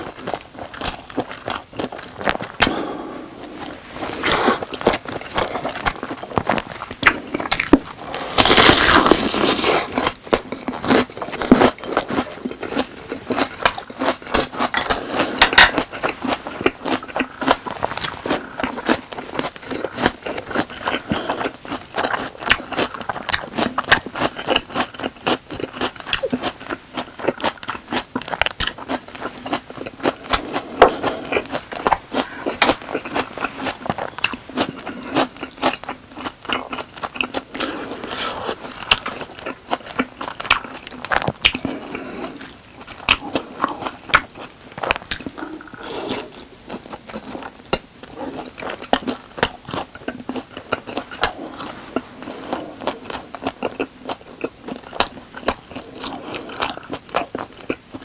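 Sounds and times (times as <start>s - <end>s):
crisp chewing crunches: 0.0s - 58.0s.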